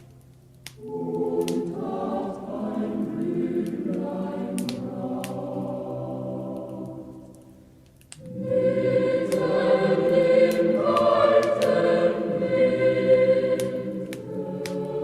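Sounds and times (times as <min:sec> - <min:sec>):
wood fire crackling: 0:00.0 - 0:15.0
choir singing a slow song: 0:00.7 - 0:15.0.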